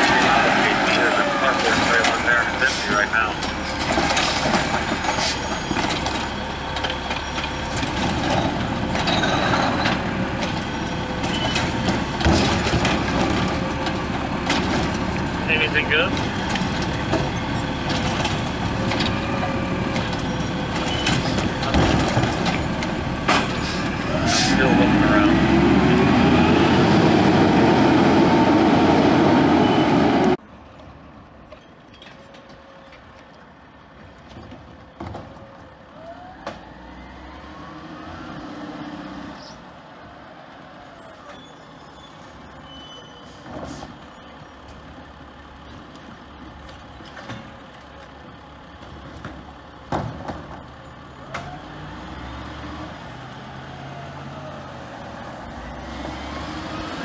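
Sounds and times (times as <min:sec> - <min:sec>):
garbage truck engine: 0:00.0 - 0:57.0.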